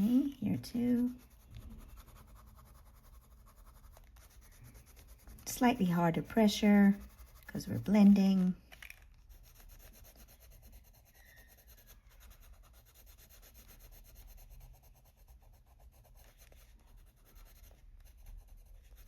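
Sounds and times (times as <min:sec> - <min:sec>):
pencil scratching on paper: 0:00.0 - 0:08.6, 0:09.2 - 0:19.0.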